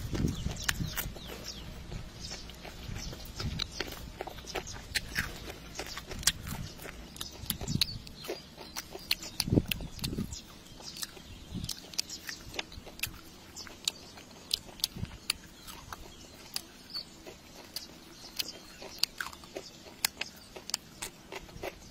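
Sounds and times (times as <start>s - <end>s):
crunching crispy fried fish: 0.0s - 21.9s.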